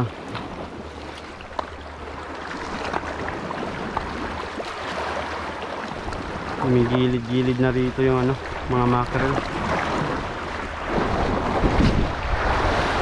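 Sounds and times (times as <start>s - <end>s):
sea water: 0.0s - 13.0s
wind: 0.0s - 13.0s.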